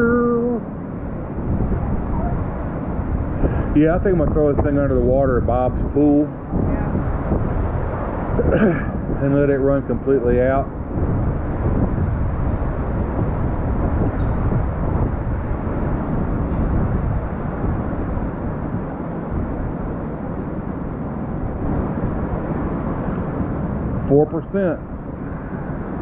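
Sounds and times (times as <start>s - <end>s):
muffled rumbling: 0.0s - 26.0s.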